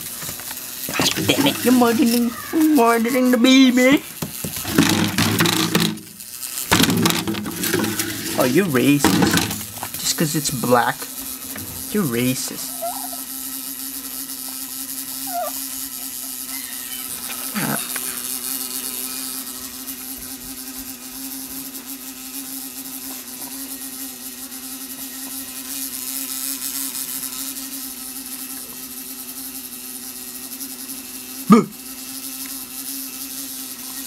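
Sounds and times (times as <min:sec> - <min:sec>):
bee buzzing under a cup: 0:00.0 - 0:34.0.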